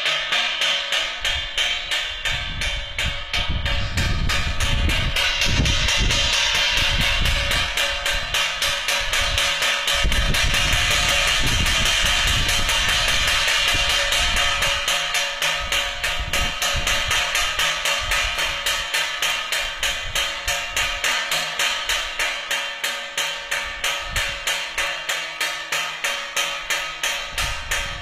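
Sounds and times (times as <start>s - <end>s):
steady ringing tone: 0.0s - 28.0s.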